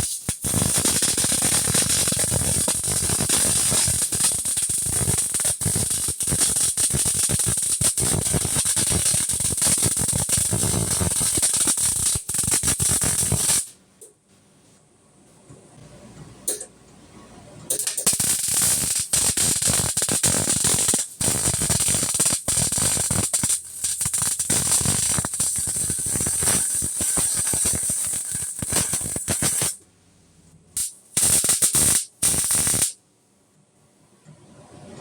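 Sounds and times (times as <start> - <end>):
arc welding crackle: 0.0 - 13.8, 17.7 - 29.8, 30.8 - 33.0.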